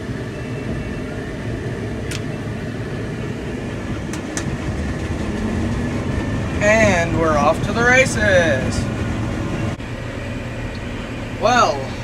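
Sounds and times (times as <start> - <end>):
combine harvester rumbling: 0.0 - 12.0.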